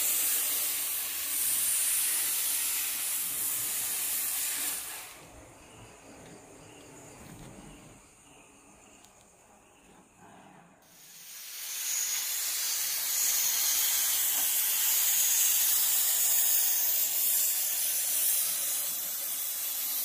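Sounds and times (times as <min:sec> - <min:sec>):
cutting torch hissing: 0:00.0 - 0:20.0.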